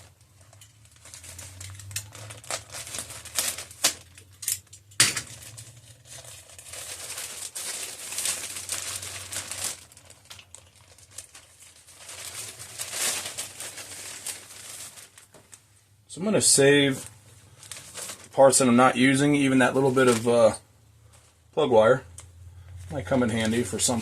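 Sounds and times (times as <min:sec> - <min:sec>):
plastic packaging crinkling: 0:00.0 - 0:15.7, 0:16.4 - 0:21.5, 0:22.1 - 0:24.0.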